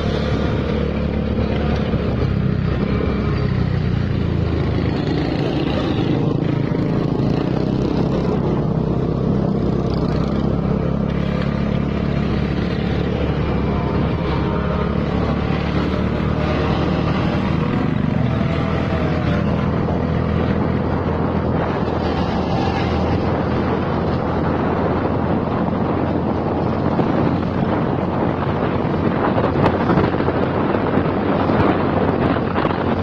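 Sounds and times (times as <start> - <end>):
bus engine rumble: 0.0 - 33.0
road noise: 0.0 - 33.0
wind buffeting microphone: 0.0 - 33.0.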